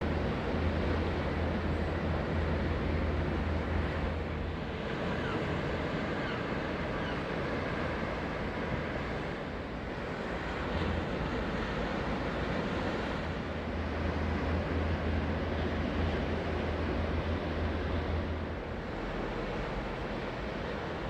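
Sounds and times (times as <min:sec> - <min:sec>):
ocean surf: 0:00.0 - 0:21.0.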